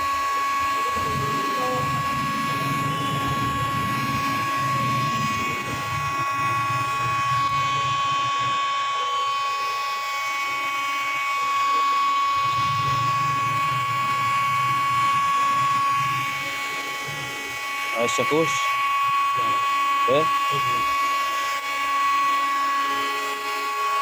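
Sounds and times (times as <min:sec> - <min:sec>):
heat gun whining: 0:00.0 - 0:24.0.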